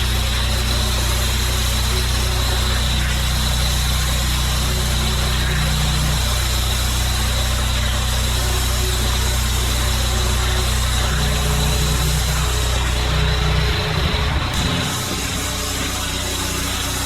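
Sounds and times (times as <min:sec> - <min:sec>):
high-pressure water jet hiss: 0:00.0 - 0:17.0
pressure washer engine running: 0:00.0 - 0:17.0.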